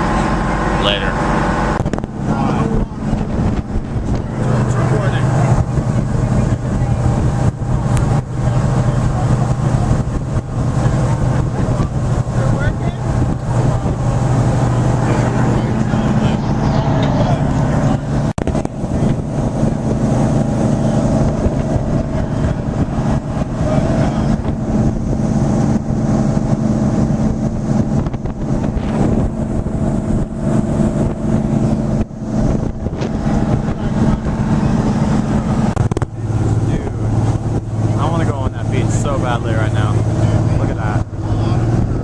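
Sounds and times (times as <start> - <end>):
boat engine drone: 0.0 - 42.0
wind rushing over microphone: 0.0 - 42.0.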